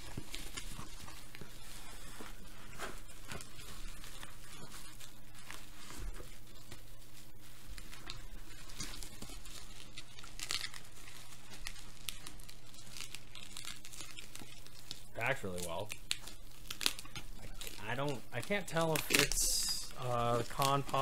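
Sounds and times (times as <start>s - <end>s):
packing material crinkling: 0.0s - 21.0s.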